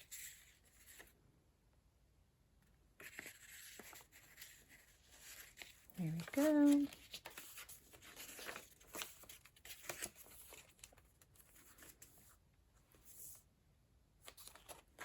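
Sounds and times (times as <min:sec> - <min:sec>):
paper pages rustling: 0:00.0 - 0:01.2, 0:03.0 - 0:13.4, 0:14.2 - 0:15.0.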